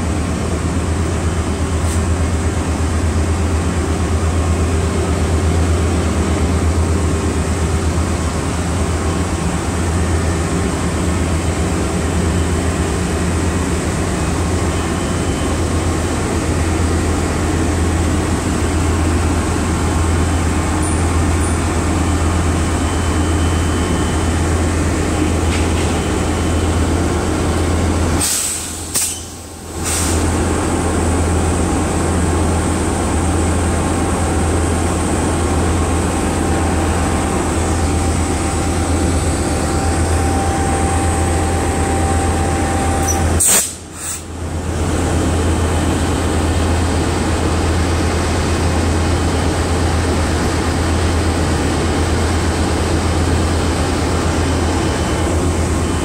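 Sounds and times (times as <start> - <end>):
diesel locomotive rumble: 0.0 - 56.0.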